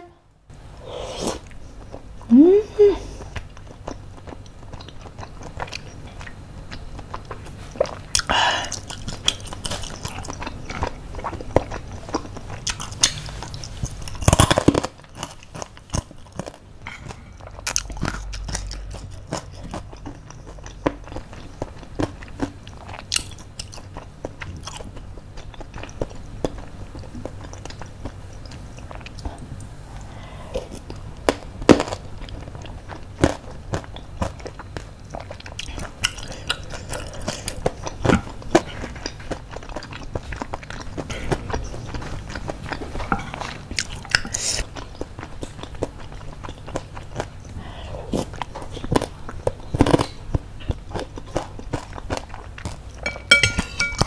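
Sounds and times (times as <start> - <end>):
chewing and crunching food: 1.4 - 54.0.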